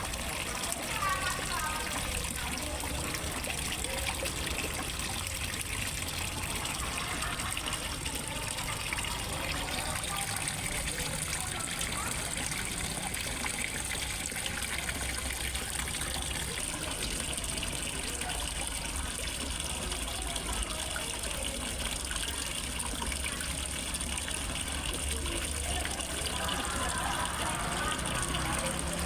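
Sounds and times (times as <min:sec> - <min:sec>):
water gushing into pond: 0:00.0 - 0:29.0.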